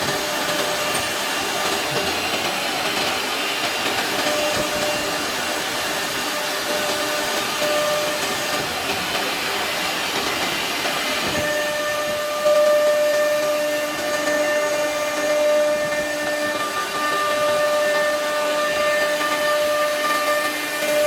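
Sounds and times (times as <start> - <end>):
wood router running: 0.0 - 21.0.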